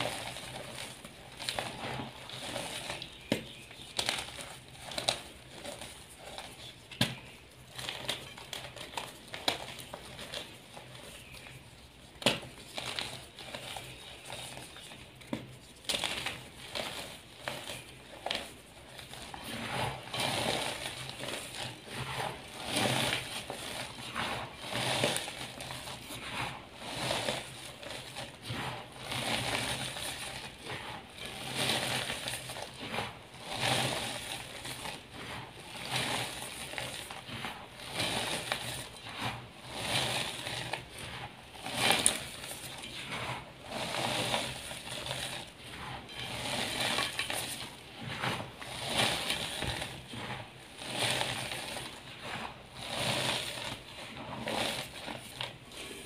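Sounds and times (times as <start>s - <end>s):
chalk powder crunching in hands: 0.0s - 56.0s.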